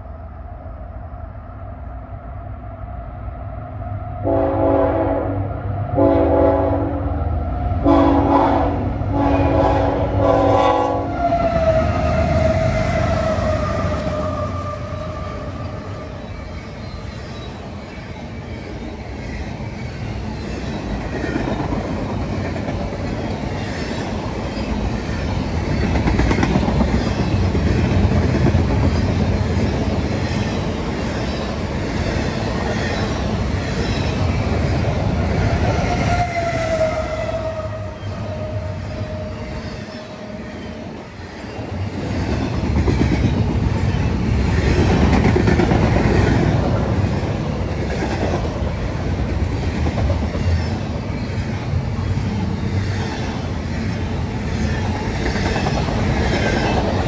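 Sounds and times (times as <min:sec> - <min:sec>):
diesel locomotive passing: 0:00.0 - 0:57.0
freight train rumble and wheel clatter: 0:00.0 - 0:57.0.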